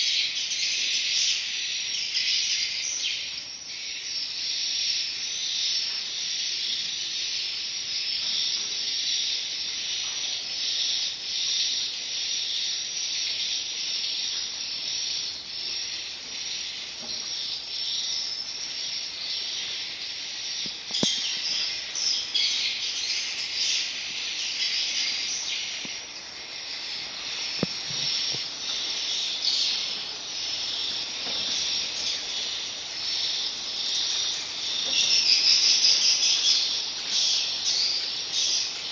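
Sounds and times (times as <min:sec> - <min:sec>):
recorded swiftlet calls twittering: 0:00.0 - 0:38.9.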